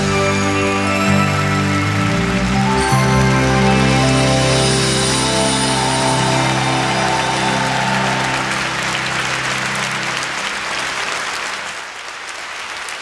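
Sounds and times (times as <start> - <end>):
held music chord: 0.0 - 11.4
audience applauding: 0.0 - 13.0.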